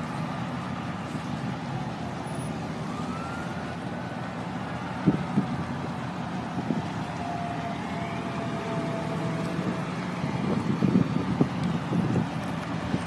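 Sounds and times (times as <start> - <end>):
faint siren: 0.0 - 13.0
street traffic noise: 0.0 - 13.0.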